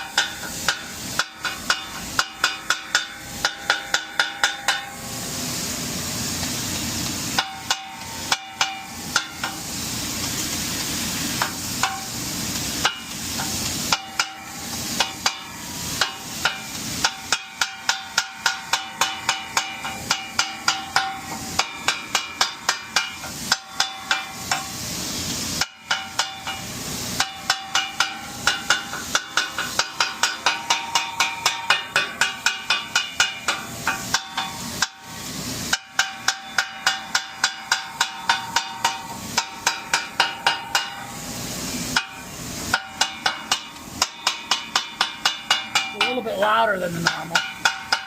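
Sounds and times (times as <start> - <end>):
metal tools clanking on griddle: 0.0 - 5.1, 7.1 - 10.4, 11.3 - 24.8, 25.5 - 41.2, 41.9 - 48.0.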